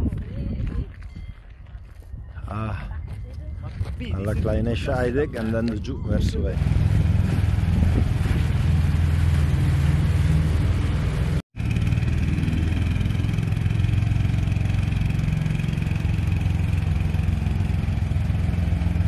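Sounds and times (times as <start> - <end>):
low road rumble: 0.0 - 19.0.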